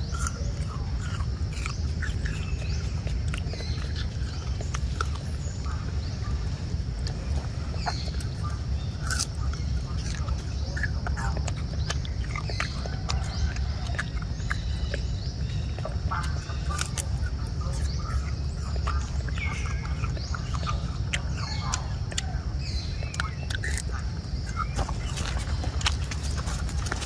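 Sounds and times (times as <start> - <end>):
monkeys squeaking and calling: 0.0 - 27.0.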